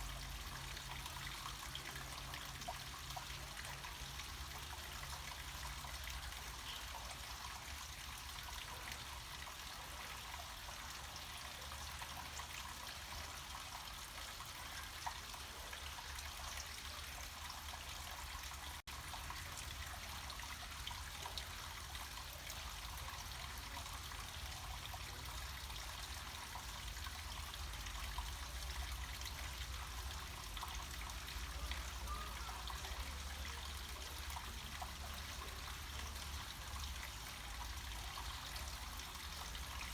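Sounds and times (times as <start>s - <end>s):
water flowing down a stream: 0.0s - 39.9s.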